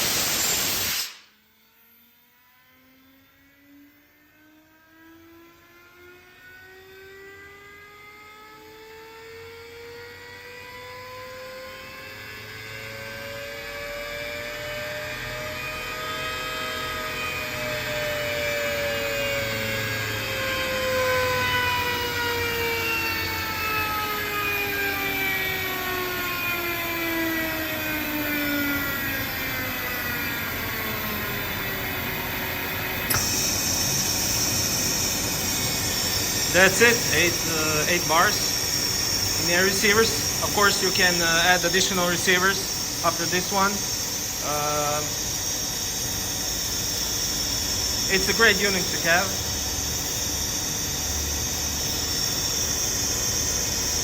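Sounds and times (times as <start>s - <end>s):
air compressor whine: 0.0s - 54.0s.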